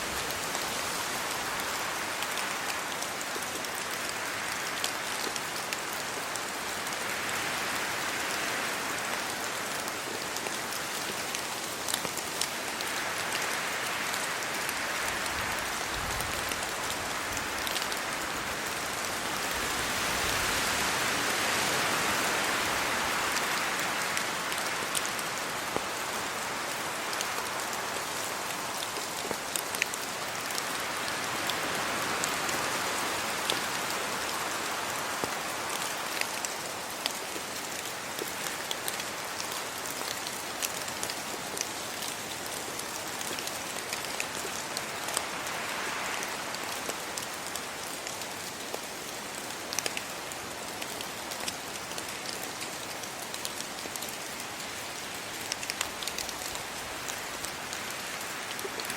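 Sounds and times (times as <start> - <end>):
rain on leaves: 0.0 - 58.9
wind gusting through trees: 0.0 - 58.9.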